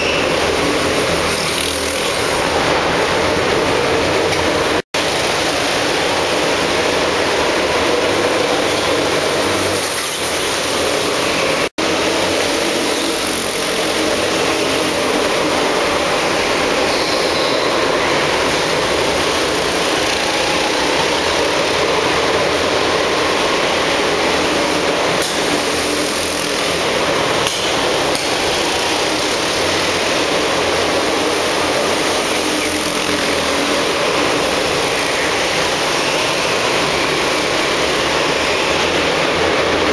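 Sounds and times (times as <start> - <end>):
go-kart engines revving: 0.0 - 39.9.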